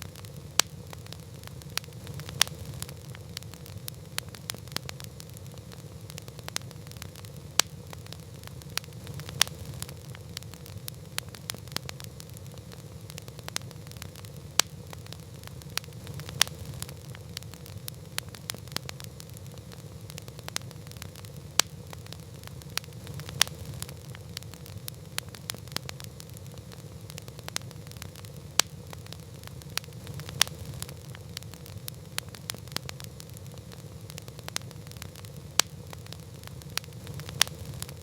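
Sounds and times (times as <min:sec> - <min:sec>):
wood campfire crackling and popping: 0:00.0 - 0:38.0.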